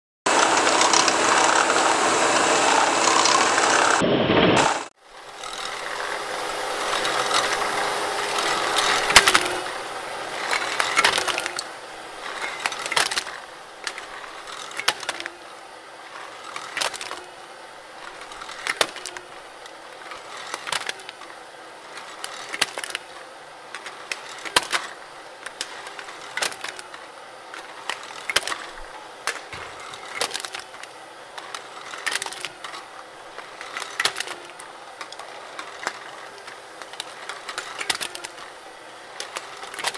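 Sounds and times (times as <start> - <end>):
machine motor hum: 0.3 - 39.9
metallic crunch of cans crushed: 6.9 - 15.5, 16.1 - 39.9.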